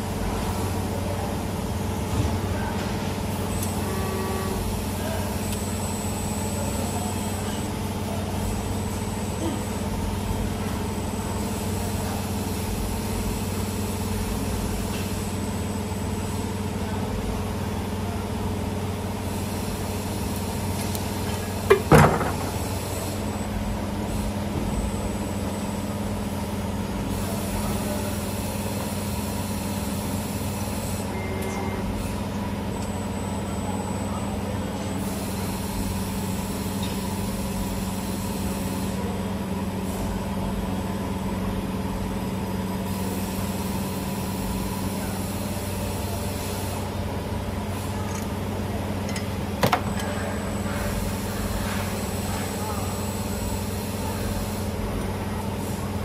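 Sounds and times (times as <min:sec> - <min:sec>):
machine electrical hum: 0:00.0 - 0:56.0.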